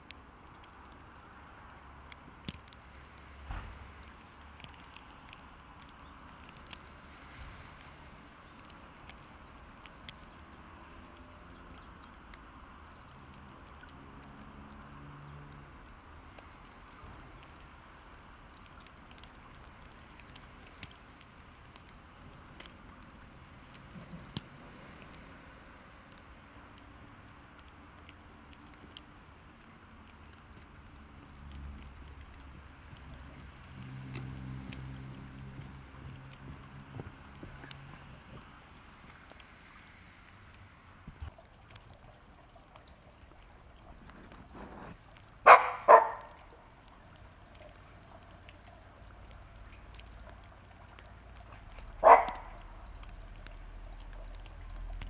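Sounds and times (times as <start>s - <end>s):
light ticks and patter: 0.0s - 55.0s.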